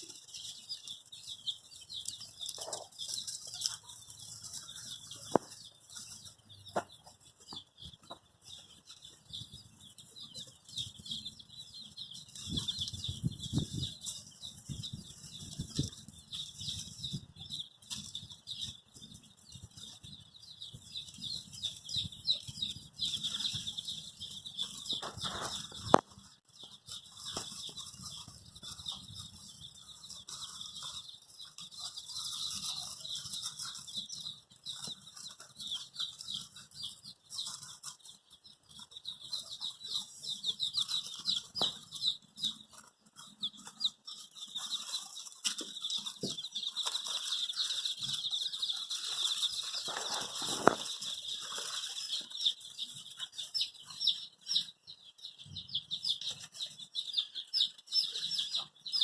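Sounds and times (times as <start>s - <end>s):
baby chickens peeping: 0.0s - 59.0s.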